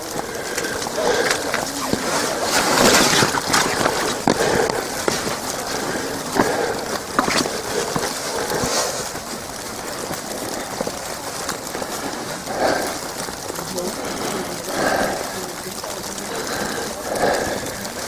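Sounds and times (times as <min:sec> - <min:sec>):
footsteps through wet grass: 0:00.0 - 0:18.0
wet snow pattering on umbrella: 0:00.0 - 0:18.0.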